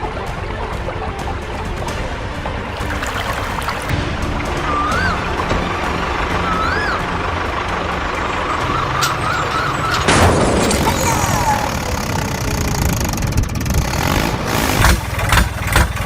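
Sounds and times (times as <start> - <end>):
construction vehicle engine running: 0.0 - 16.0.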